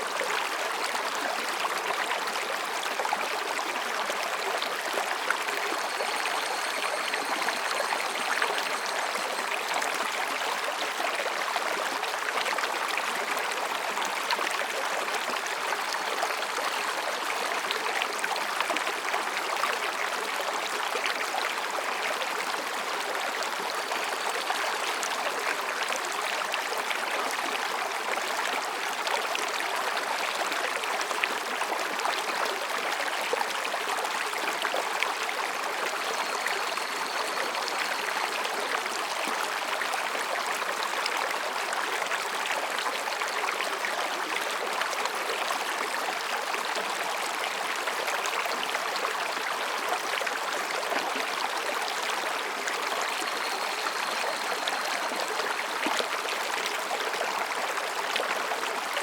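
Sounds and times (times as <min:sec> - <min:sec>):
stream babbling over rocks: 0:00.0 - 0:59.0.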